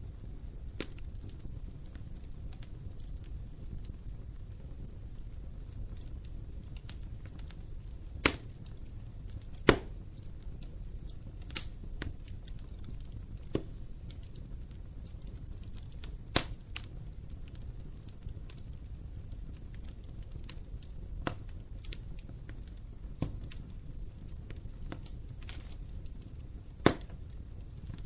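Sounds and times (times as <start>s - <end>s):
sharp fire pops: 0.0s - 28.0s
wood fire crackling: 0.0s - 28.0s.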